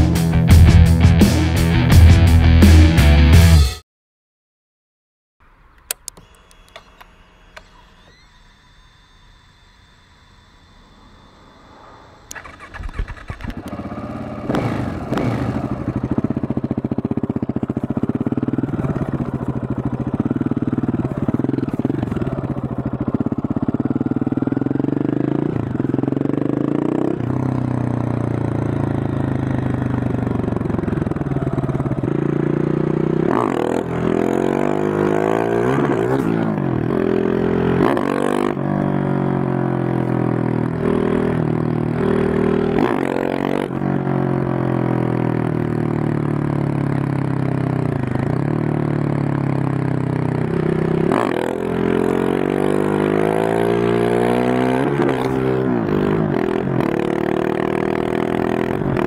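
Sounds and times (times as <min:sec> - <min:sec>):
motorcycle engine revving: 0:10.4 - 0:59.0.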